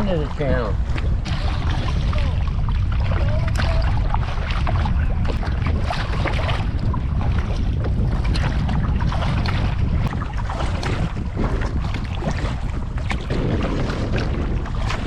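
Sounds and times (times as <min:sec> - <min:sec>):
water splashing and lapping: 0:00.0 - 0:15.0
wind buffeting microphone: 0:00.0 - 0:15.0.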